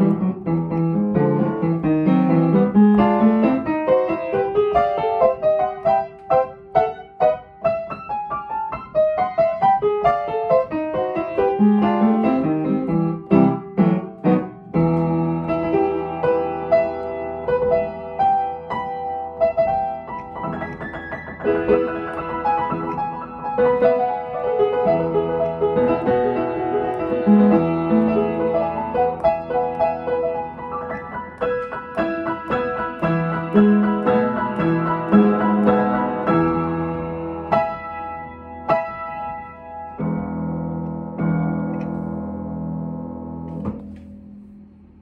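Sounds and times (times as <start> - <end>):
solo piano: 0.0 - 45.0.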